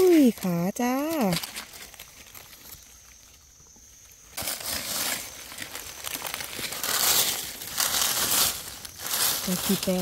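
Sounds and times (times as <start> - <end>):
dry leaves crunching: 0.0 - 3.5, 4.2 - 10.0.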